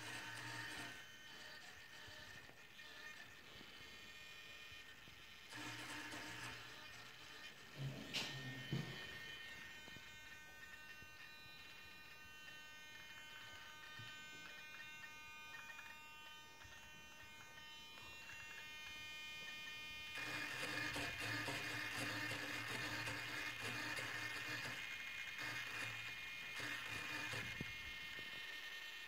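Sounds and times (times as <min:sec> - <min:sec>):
servo electric buzz with whine: 0:00.0 - 0:29.0.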